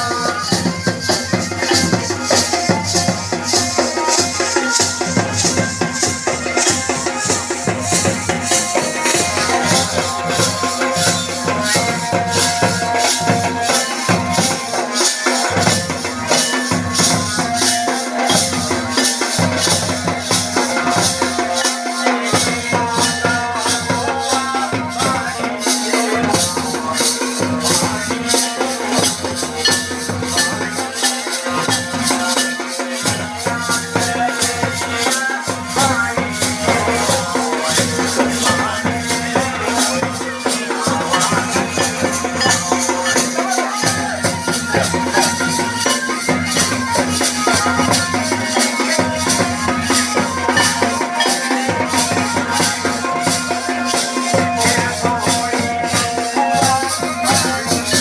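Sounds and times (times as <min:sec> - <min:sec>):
folk song with rattling percussion: 0:00.0 - 0:58.0.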